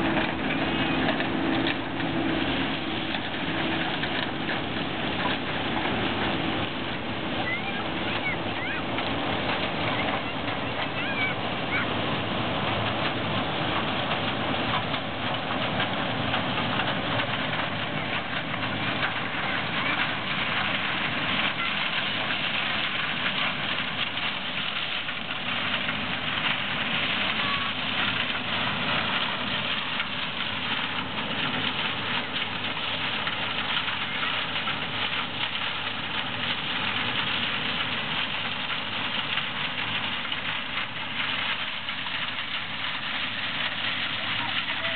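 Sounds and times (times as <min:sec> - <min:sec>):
combine harvester engine and threshing: 0:00.0 - 0:44.9.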